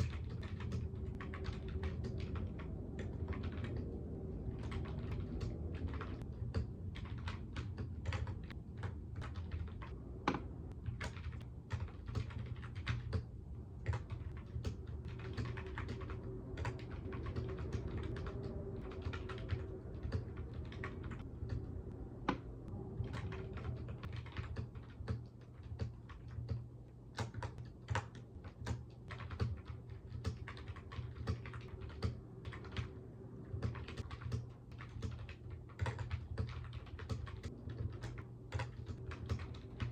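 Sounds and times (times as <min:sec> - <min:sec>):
computer keyboard typing: 0:00.0 - 0:39.9
steady low hum: 0:00.0 - 0:39.9.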